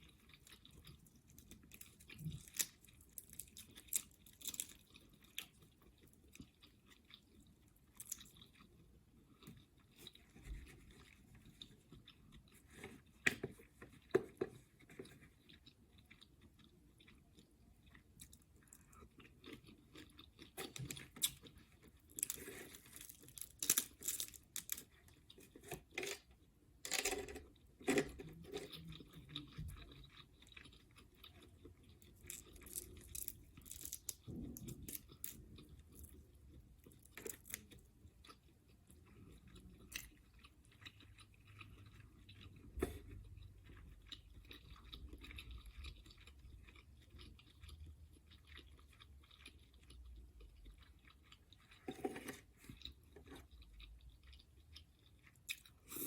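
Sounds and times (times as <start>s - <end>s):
close chewing with crunches: 0.0s - 56.0s.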